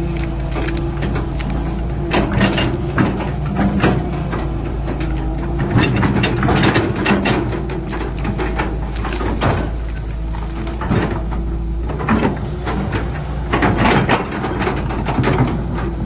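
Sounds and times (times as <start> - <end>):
excavator engine rumbling: 0.0 - 16.0
metallic clanks and knocks: 0.3 - 16.0.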